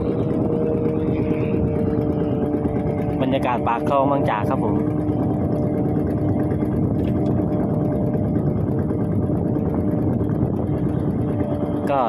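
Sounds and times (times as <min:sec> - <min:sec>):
small boat engine droning: 0:00.0 - 0:12.0.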